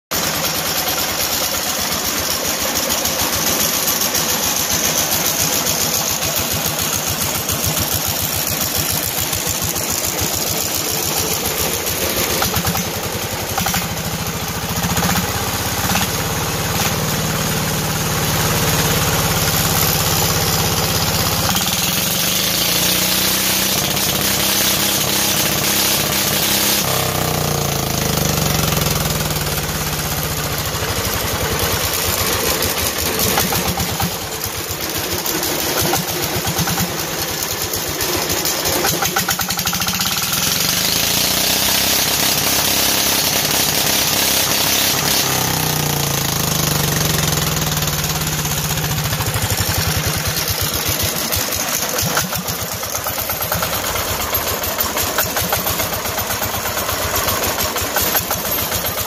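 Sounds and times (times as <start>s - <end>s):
small diesel engine running: 0.0s - 59.0s.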